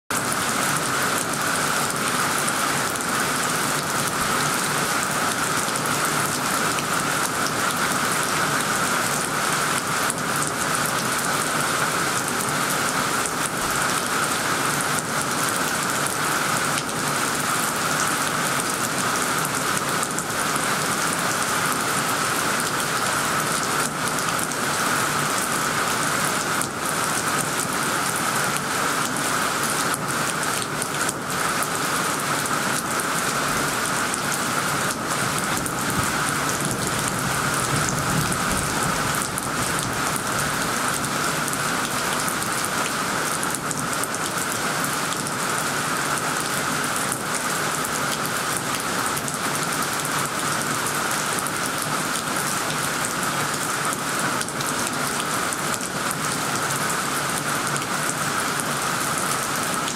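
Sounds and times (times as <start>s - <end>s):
heavy rain on leaves: 0.1s - 59.9s.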